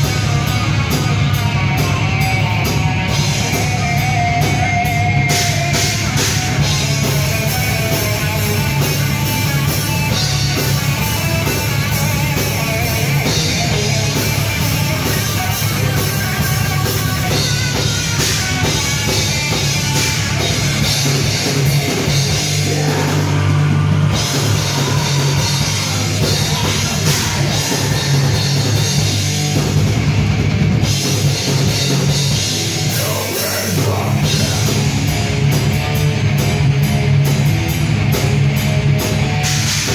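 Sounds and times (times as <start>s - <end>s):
distorted guitars: 0.0s - 39.9s
heavy rock band playing: 0.0s - 39.9s
loud drum kit: 0.0s - 39.9s.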